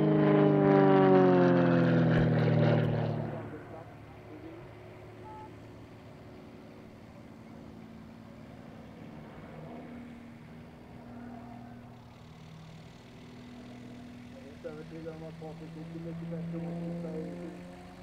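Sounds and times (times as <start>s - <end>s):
distant propeller plane drone: 0.0s - 18.0s.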